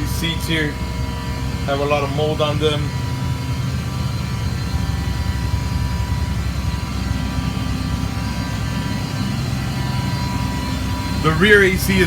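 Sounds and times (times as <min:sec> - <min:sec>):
air-conditioning blower running: 0:00.0 - 0:12.0
bus engine idling: 0:00.0 - 0:12.0.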